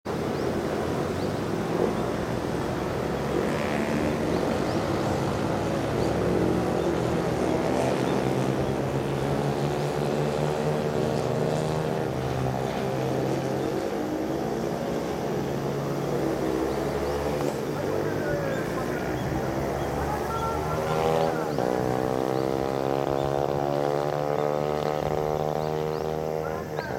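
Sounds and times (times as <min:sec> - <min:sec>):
vehicle engine droning: 0:00.1 - 0:26.9.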